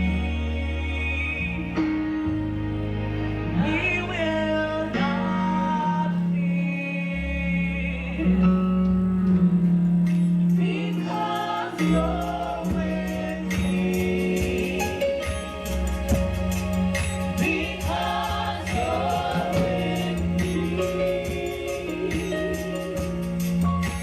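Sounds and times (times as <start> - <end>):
band with sustained bass: 0.0 - 24.0
group of singers: 0.0 - 24.0.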